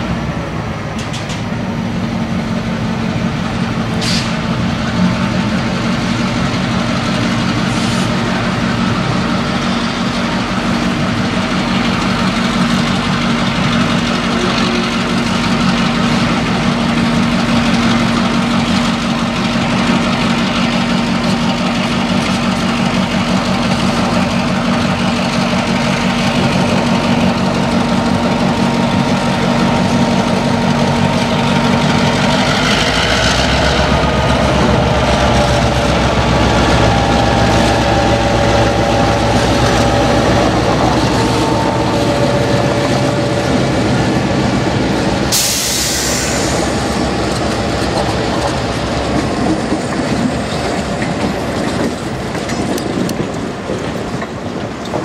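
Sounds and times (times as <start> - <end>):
diesel locomotive engines running: 0.0 - 55.0.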